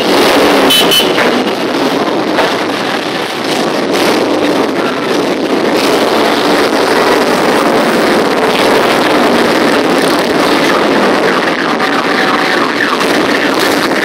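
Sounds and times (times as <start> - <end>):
motorcycle engines droning: 0.0 - 14.0.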